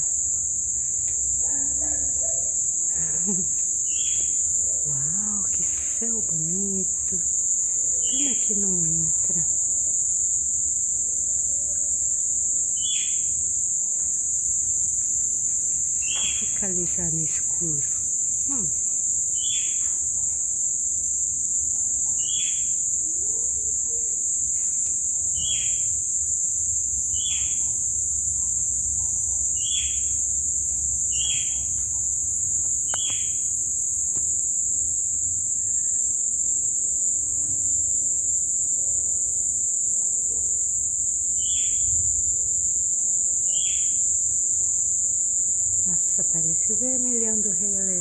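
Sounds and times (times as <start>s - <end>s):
crickets trilling: 0.0s - 48.0s.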